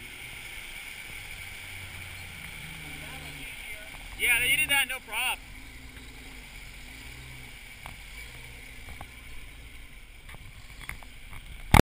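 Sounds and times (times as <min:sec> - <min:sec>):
engine idling low: 0:00.0 - 0:11.8.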